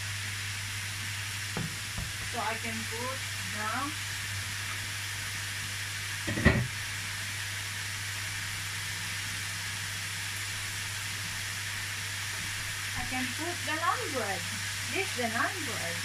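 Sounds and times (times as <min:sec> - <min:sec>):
meat sizzling in a wok: 0:00.0 - 0:16.0
steam hissing: 0:00.0 - 0:16.0.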